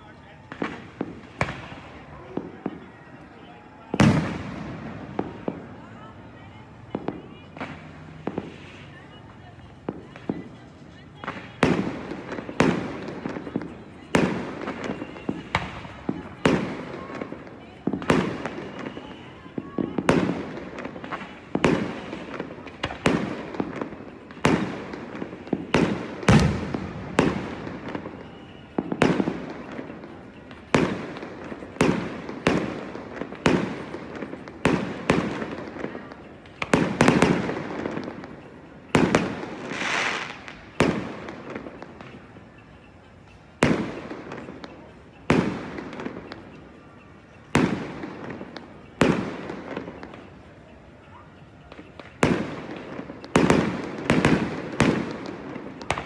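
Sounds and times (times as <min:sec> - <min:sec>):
firework bangs: 0:00.0 - 0:42.8, 0:43.6 - 0:46.8, 0:47.4 - 0:50.5, 0:51.6 - 0:56.0.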